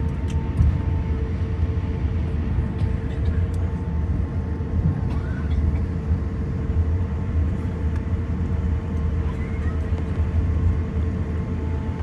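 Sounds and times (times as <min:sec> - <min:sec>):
airliner cabin rumble: 0:00.0 - 0:12.0
constant cabin hum: 0:00.0 - 0:12.0.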